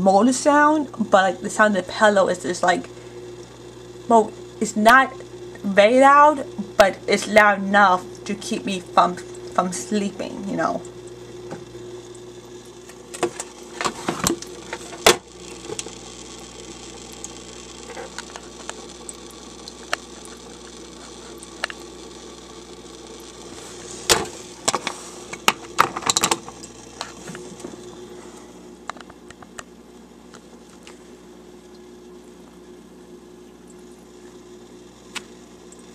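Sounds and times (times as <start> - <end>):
aquarium filter humming: 0.0 - 35.9.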